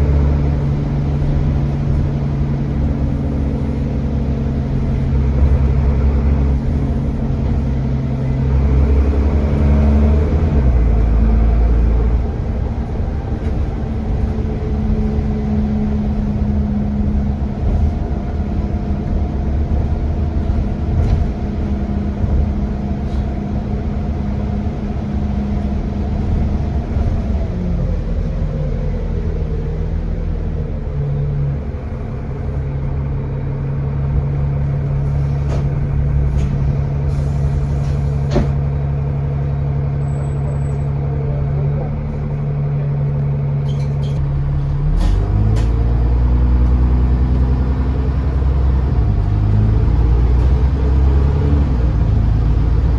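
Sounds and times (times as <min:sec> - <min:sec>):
bus diesel engine: 0:00.0 - 0:52.9.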